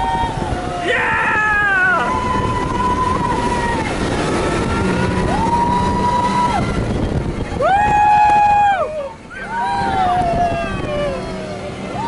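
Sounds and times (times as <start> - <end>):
held engine-like tones: 0.0 - 12.0
ride car rumbling: 0.0 - 12.0
wind noise: 0.0 - 12.0.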